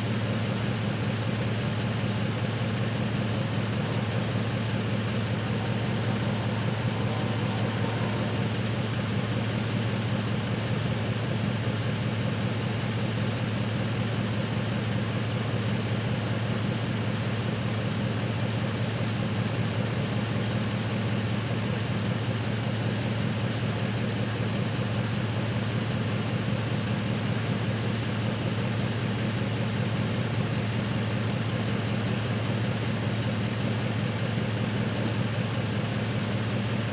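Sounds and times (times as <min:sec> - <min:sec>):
truck engine idling: 0:00.0 - 0:36.9.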